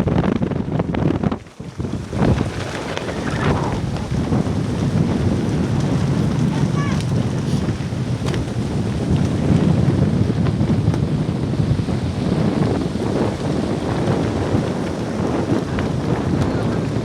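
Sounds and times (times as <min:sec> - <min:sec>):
wind buffeting microphone: 0:00.0 - 0:17.0
rain: 0:01.4 - 0:10.5, 0:12.1 - 0:17.0.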